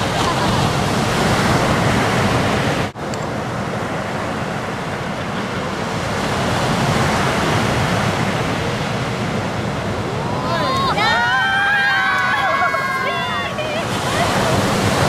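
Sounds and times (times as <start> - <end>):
waves breaking: 0.0 - 15.0.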